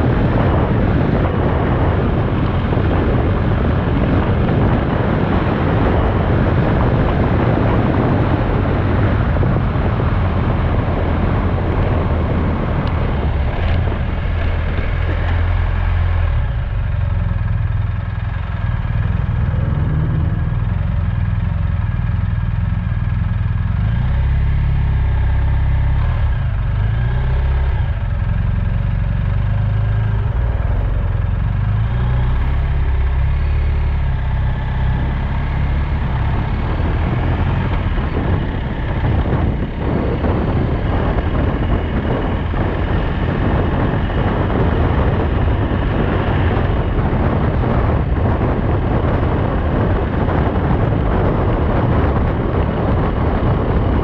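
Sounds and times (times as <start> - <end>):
motorcycle engine: 0.0 - 54.0
wind rushing over microphone: 0.0 - 54.0.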